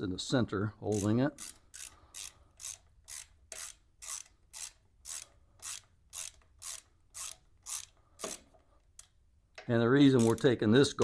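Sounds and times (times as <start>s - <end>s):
hand ratchet clicking: 0.9s - 11.0s.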